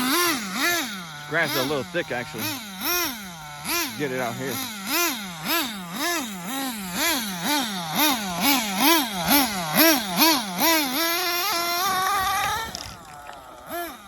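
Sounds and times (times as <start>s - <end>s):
rc nitro engine revving: 0.0s - 14.0s.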